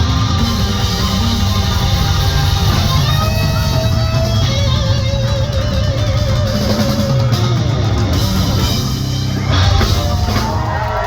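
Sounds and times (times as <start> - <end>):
drum kit: 0.0 - 11.0
electric guitar: 0.0 - 11.0.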